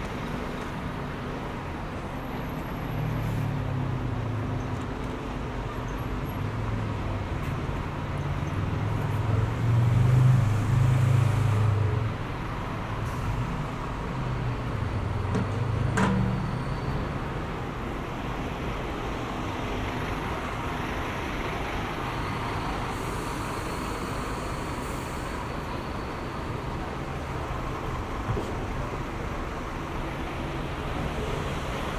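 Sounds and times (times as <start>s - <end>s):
steady road noise: 0.0s - 31.9s.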